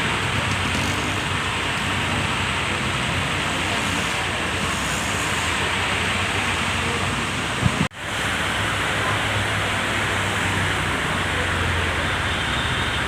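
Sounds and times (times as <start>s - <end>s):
heavy rain: 0.0s - 13.0s
traffic on wet roads: 0.0s - 13.0s.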